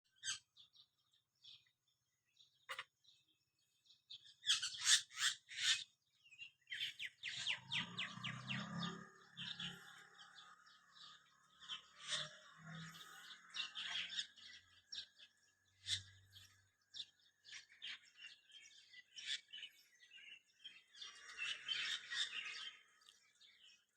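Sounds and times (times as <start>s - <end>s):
small bird chirping: 0.0s - 23.9s.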